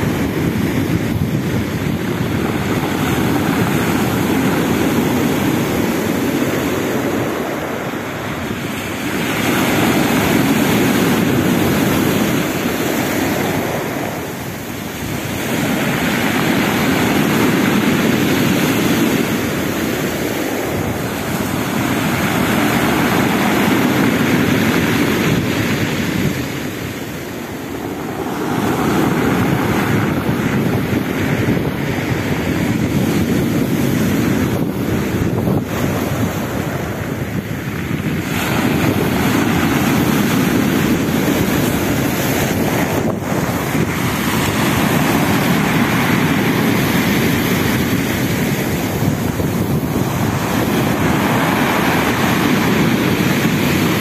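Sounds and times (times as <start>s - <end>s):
surf breaking on pebble beach: 0.0s - 54.0s.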